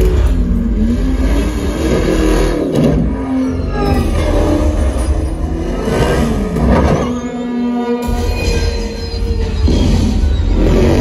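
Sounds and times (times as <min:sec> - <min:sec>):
heavy bass: 0:00.0 - 0:11.0.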